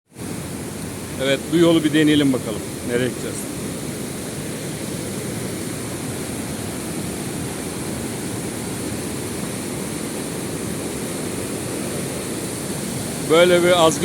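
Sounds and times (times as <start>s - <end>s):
turbulent river water rushing: 0.1s - 14.0s.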